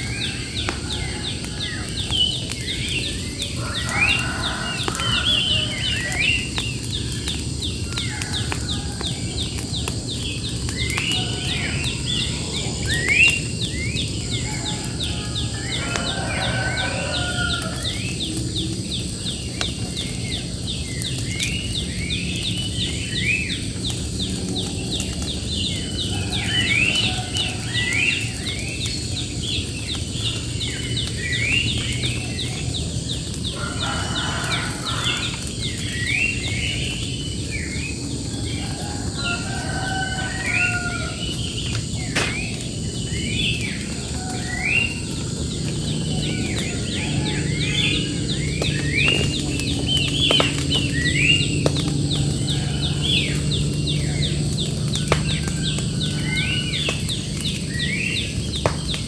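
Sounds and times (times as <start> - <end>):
birds singing: 0.0 - 59.0.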